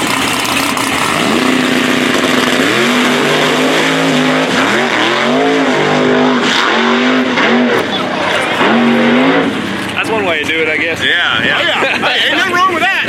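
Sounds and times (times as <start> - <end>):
race car engine revving: 0.0 - 11.6.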